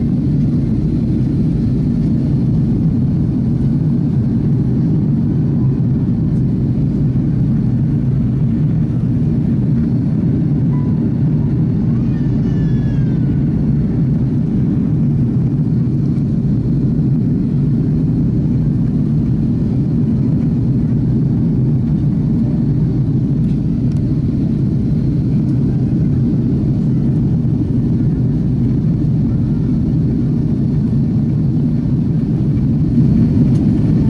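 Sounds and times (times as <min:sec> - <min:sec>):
airliner engines rumbling: 0:00.0 - 0:34.0.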